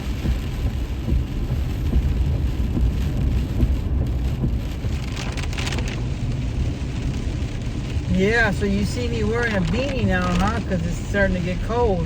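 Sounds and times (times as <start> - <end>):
heavy rain on a truck: 0.0 - 12.0
truck engine rumble: 0.0 - 12.0.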